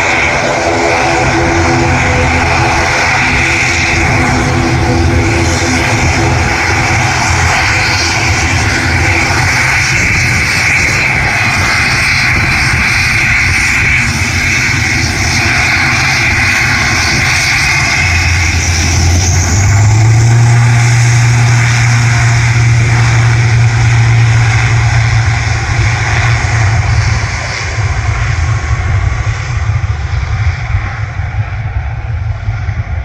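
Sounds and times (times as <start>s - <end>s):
aircraft engines running: 0.0s - 33.0s
deep low hum: 0.0s - 33.0s
high whine: 0.0s - 33.0s.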